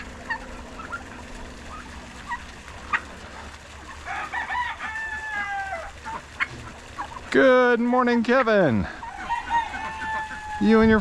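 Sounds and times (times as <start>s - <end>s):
poultry chirping and clucking: 0.0s - 11.0s.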